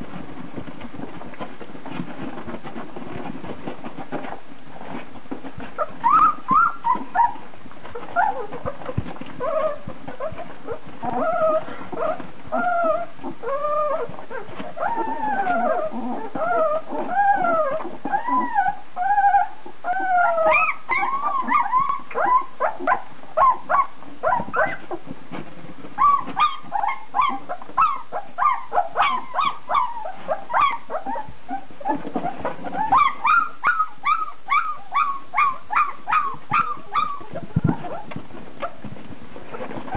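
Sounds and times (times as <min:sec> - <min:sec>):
puppies whimpering and squealing: 0:00.1 - 0:25.1, 0:25.9 - 0:38.9, 0:39.5 - 0:39.9.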